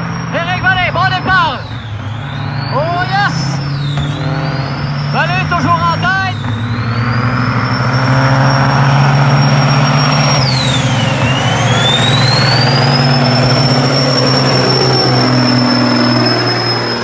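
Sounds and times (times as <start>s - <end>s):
high turbo whistle: 0.0s - 17.0s
truck diesel engines droning: 0.0s - 17.0s.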